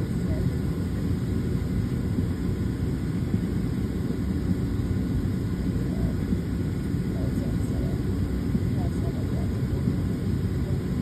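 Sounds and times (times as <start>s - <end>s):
jet airliner cabin rumble: 0.0s - 11.0s.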